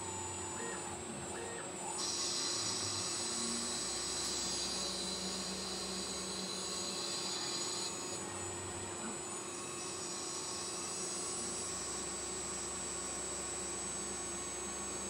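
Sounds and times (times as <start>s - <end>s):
mill spindle humming: 0.0s - 15.0s.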